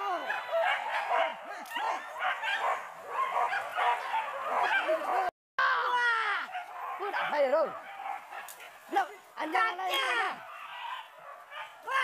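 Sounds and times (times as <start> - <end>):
dogs baying and yelping: 0.0 - 5.3, 6.4 - 9.4, 10.1 - 12.0.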